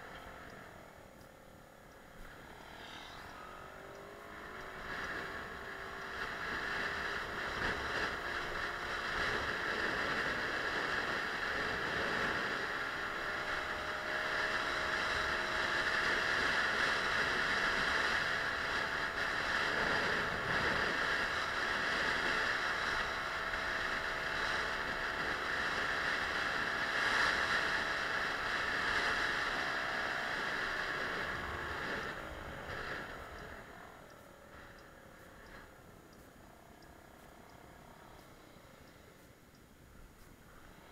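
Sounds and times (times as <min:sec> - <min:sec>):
scooter engine running: 0:00.0 - 0:40.9
wind rushing over microphone: 0:02.2 - 0:39.0.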